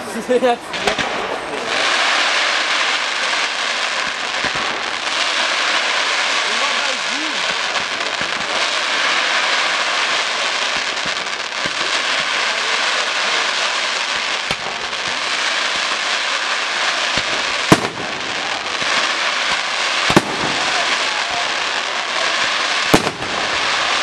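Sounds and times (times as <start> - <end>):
fireworks bangs: 0.0 - 24.0
fireworks crackling hiss: 0.0 - 24.0.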